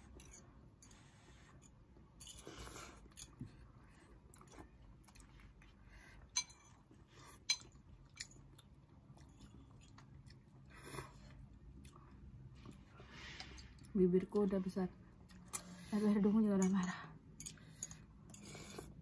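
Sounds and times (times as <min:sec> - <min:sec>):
chewing and slurping noodles: 0:00.2 - 0:13.9, 0:17.4 - 0:19.0.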